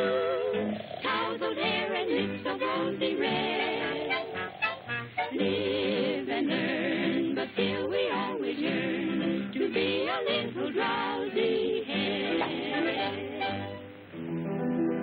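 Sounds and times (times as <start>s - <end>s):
singing with wide vibrato: 0.0s - 14.0s
cartoon score music: 0.0s - 15.0s.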